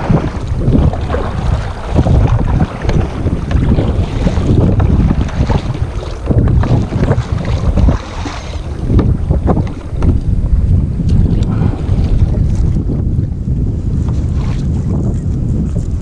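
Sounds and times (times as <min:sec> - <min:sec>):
water splashing against boat: 0:00.0 - 0:16.0
wind buffeting microphone: 0:00.0 - 0:16.0.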